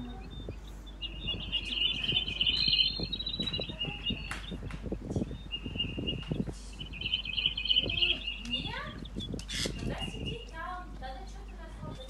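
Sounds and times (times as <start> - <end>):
young bird buzzy chatter: 0.0 - 12.0.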